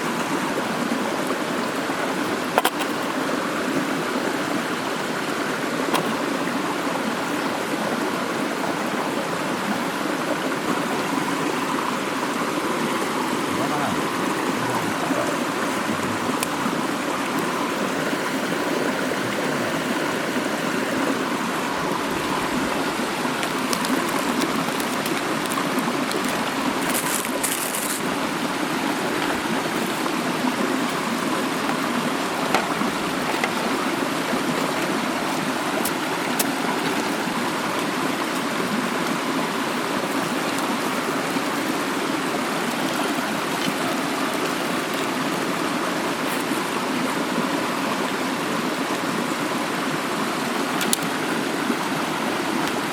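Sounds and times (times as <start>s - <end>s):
mountain stream running: 0.0s - 52.9s.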